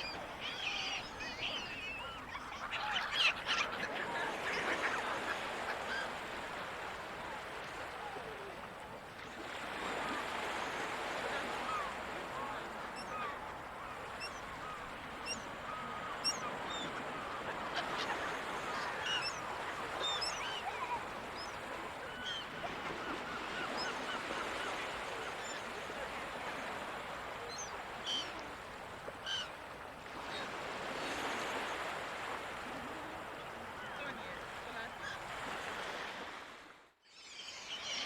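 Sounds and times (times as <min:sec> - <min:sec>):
gulls calling: 0:00.0 - 0:08.6, 0:09.7 - 0:36.2
surf washing: 0:00.0 - 0:36.8.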